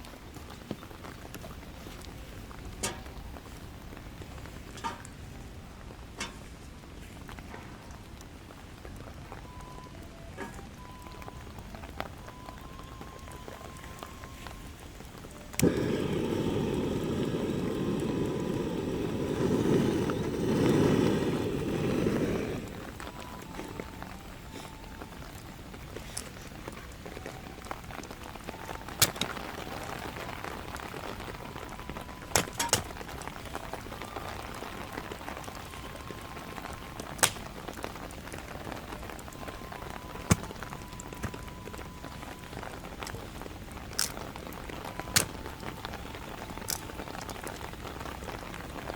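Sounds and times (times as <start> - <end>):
rain hissing: 0.0 - 48.9
sharp single raindrops: 0.0 - 48.9.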